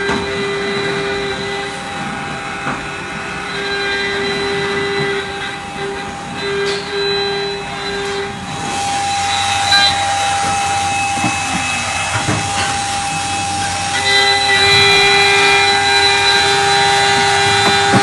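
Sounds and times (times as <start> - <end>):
end mill grinding metal: 0.0 - 18.0
router spindle high whine: 0.0 - 18.0.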